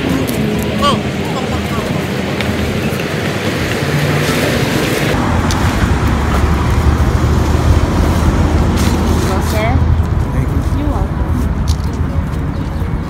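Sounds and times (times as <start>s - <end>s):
city street traffic: 0.0s - 13.0s
vehicle engine rumble: 0.0s - 13.0s.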